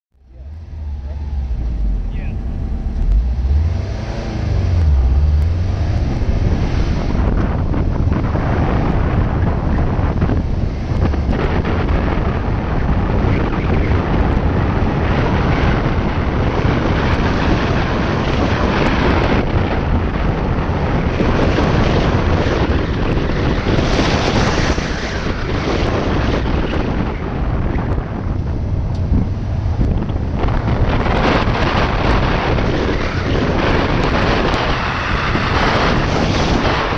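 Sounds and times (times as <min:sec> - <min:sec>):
car engine revving: 0:00.2 - 0:36.9
wind rushing over microphone: 0:00.2 - 0:36.9.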